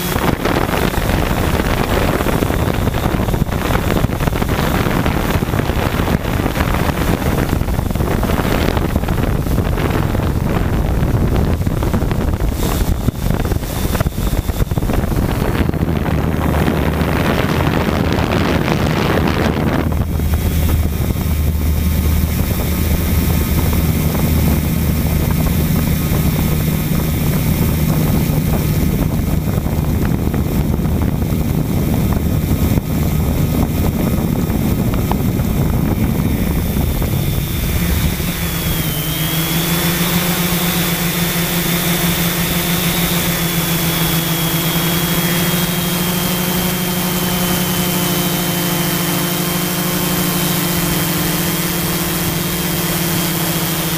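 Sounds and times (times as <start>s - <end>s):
drone propeller motors humming: 0.0s - 53.9s.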